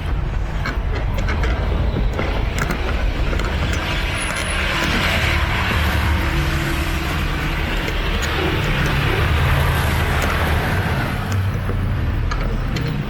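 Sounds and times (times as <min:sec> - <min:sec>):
steady rushing noise: 0:00.0 - 0:13.0
vehicles passing on wet road: 0:02.5 - 0:13.0.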